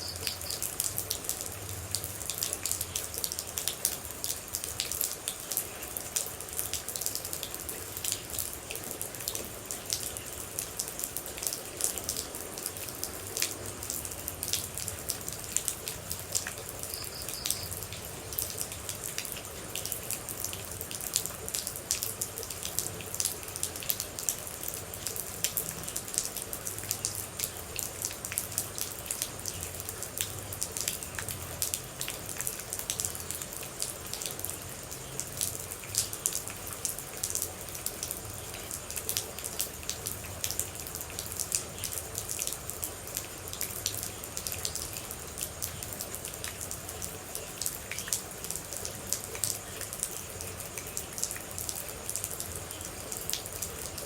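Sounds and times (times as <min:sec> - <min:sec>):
close water droplets dripping: 0:00.0 - 0:54.0
rain falling: 0:00.0 - 0:54.0.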